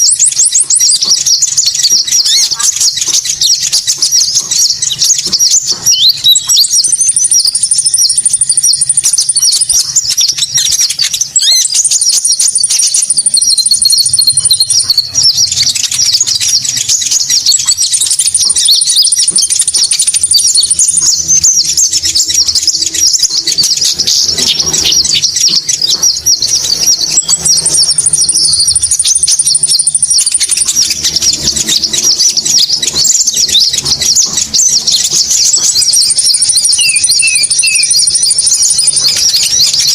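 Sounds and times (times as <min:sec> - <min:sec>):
birds chattering and chirping: 0:00.0 - 0:39.9
high buzzy bird trill: 0:00.0 - 0:39.9.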